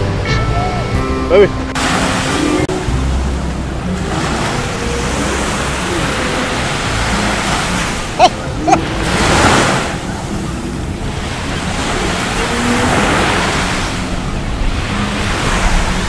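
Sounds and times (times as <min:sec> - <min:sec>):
surf washing onto sand: 0:01.7 - 0:16.0
wind on microphone: 0:01.8 - 0:16.0.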